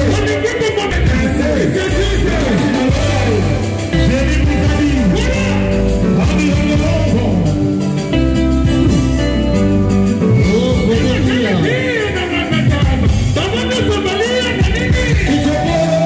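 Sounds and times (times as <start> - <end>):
person singing: 0.0 - 8.0, 8.6 - 9.4, 10.2 - 16.0
live band music: 0.0 - 16.0.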